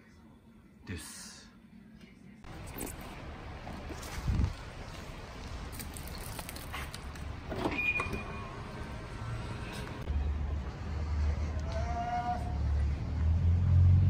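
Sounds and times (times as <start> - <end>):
low rumble of vehicles: 2.3 - 14.0.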